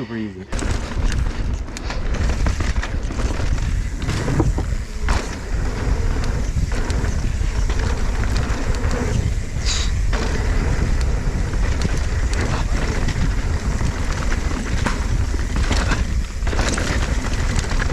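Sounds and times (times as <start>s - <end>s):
bike tyres and frame rattling: 0.5s - 17.9s
wind buffeting microphone: 0.7s - 17.9s.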